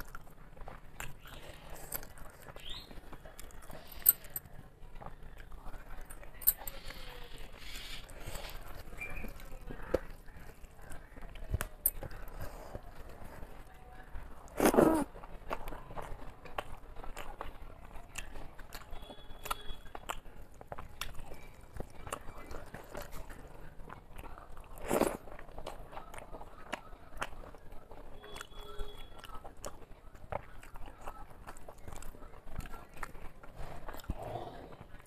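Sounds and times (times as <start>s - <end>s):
chewing and mouth smacking: 0.0s - 35.0s.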